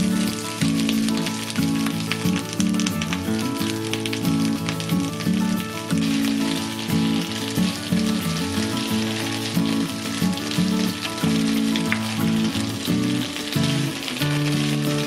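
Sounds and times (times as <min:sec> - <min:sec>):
background music low notes: 0:00.0 - 0:15.0
vegetables sizzling in oil: 0:00.0 - 0:15.0.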